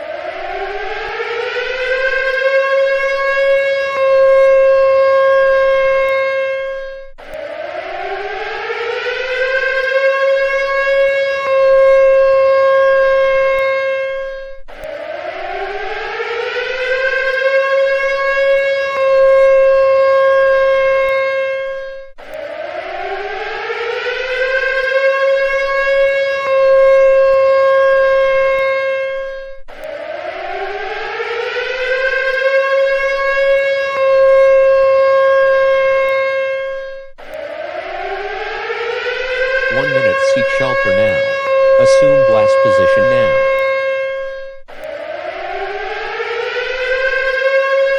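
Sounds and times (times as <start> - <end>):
civil defense siren winding up: 0.0 - 47.9.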